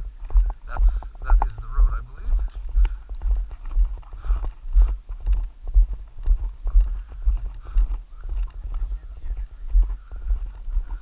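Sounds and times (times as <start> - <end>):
footsteps on gravel: 0.0 - 11.0.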